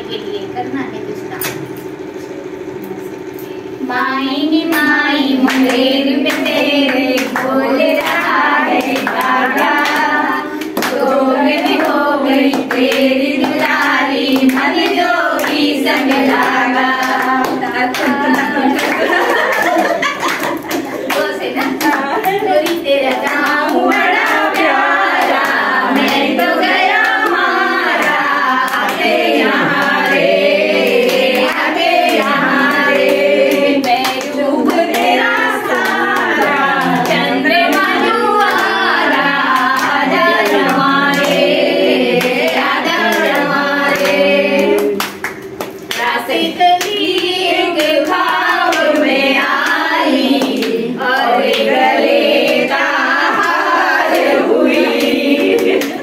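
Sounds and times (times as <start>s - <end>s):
women singing together: 3.8s - 56.0s
hand claps: 4.6s - 56.0s.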